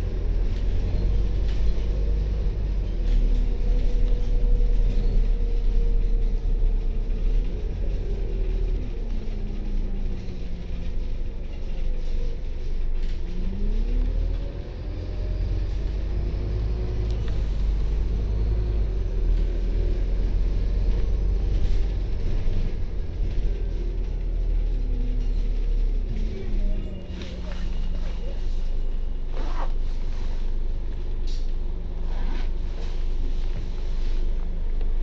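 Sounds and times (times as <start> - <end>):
bus engine rumbling: 0.0 - 35.0.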